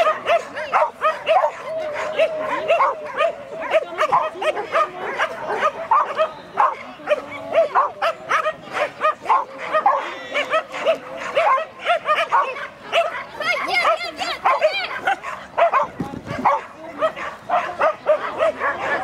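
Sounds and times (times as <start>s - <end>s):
dog barking in high yips: 0.0s - 19.0s.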